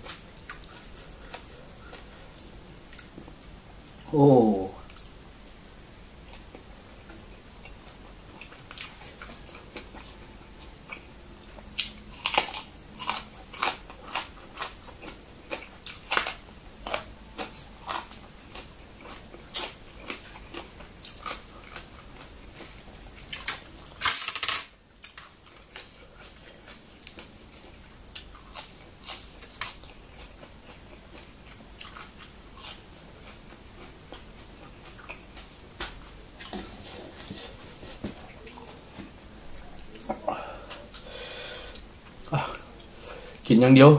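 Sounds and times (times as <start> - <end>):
man chewing food: 0.0 - 4.1, 4.8 - 24.0, 24.9 - 43.4.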